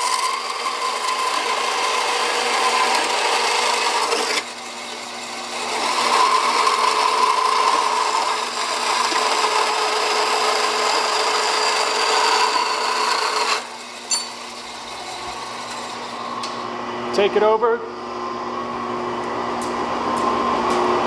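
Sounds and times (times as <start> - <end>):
bandsaw cutting steel: 0.0 - 17.6.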